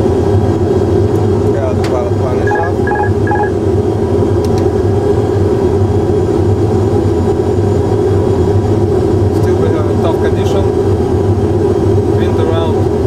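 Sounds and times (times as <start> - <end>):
simulated engine and airflow drone: 0.0 - 13.0.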